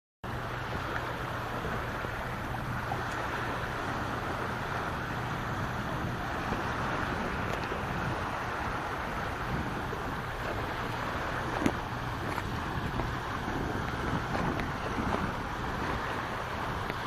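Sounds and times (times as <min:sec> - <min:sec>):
sea waves washing on beach: 0:00.2 - 0:17.0.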